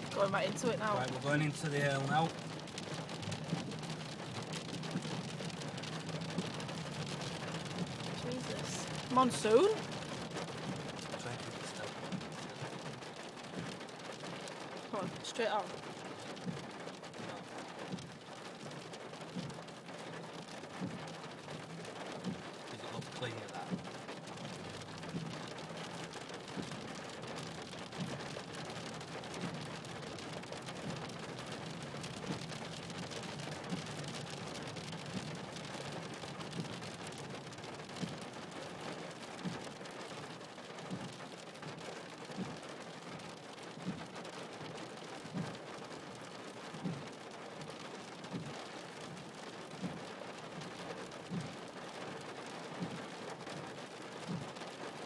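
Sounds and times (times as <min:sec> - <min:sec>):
rain on car roof: 0:00.0 - 0:55.0
windscreen wipers thumping: 0:00.1 - 0:45.8, 0:46.4 - 0:55.0.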